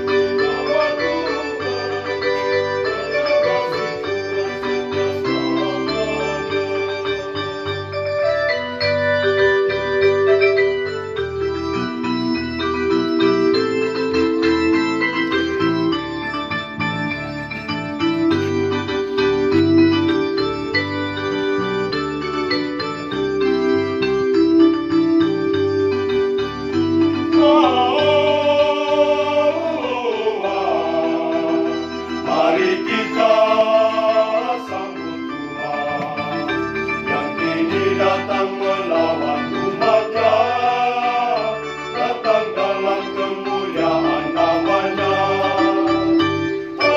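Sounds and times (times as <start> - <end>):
organ hymn on electronic keyboard: 0.0 - 46.9.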